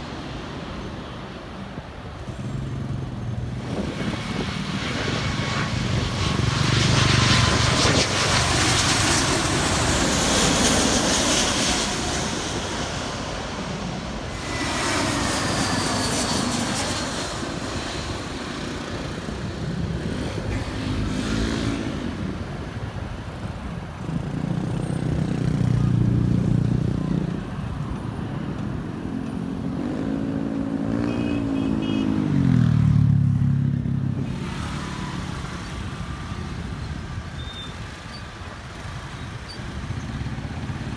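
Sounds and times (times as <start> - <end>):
jet airliner passing overhead: 0.0 - 40.9
road vehicles passing: 0.0 - 40.9.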